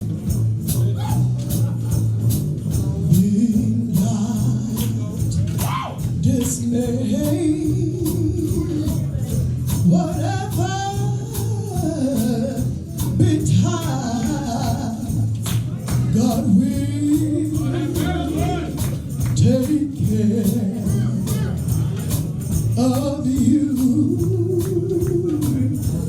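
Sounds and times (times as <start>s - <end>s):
gospel band playing: 0.0s - 26.0s
tambourine: 0.0s - 26.0s
person singing: 2.8s - 15.4s, 16.0s - 22.0s, 22.8s - 26.0s.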